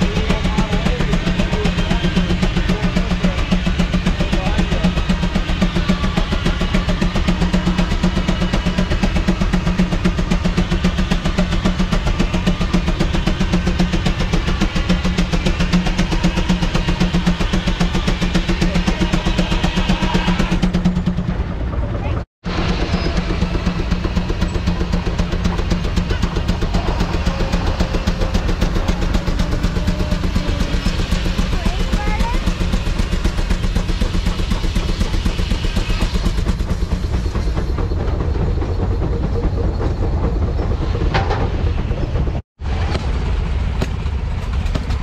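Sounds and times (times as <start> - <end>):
steam engine exhaust chuffing: 0.0 - 45.0.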